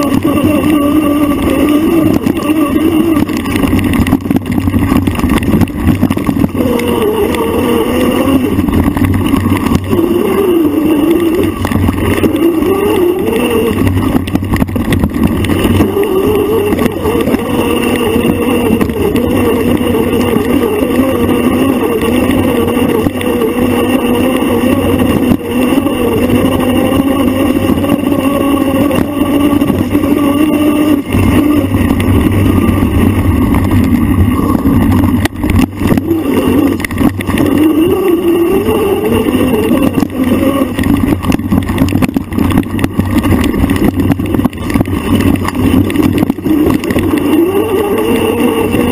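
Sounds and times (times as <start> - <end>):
bike jolting on dirt trail: 0.0 - 48.9
motor running: 0.0 - 48.9.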